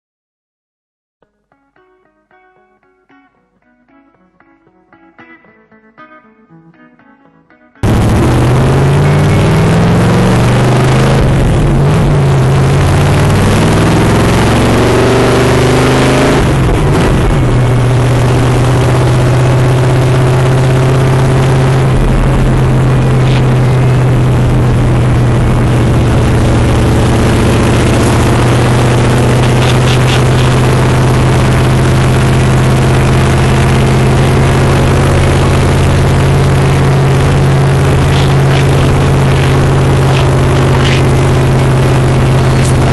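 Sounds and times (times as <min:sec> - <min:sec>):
car engine accelerating: 0:07.8 - 0:42.9.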